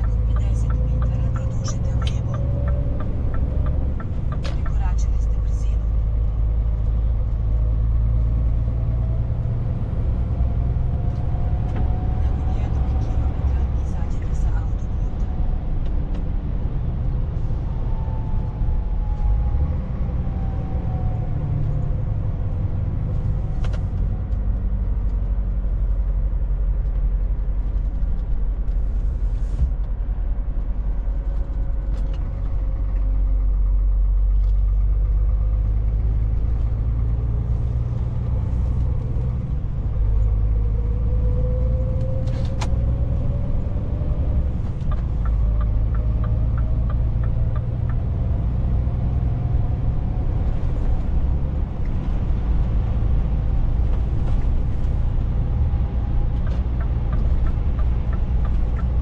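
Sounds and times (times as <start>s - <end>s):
diesel truck engine rumble: 0.0s - 59.0s
road noise: 0.0s - 59.0s.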